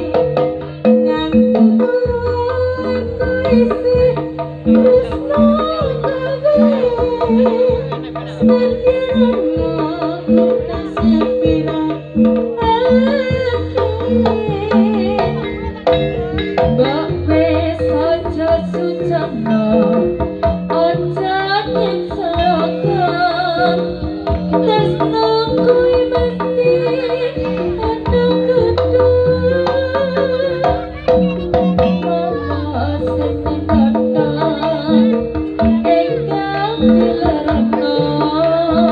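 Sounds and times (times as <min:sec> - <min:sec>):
gong-chime and metallophone notes: 0:00.0 - 0:38.9
hand drums beating: 0:00.0 - 0:38.9
wavering high melody: 0:00.0 - 0:38.9.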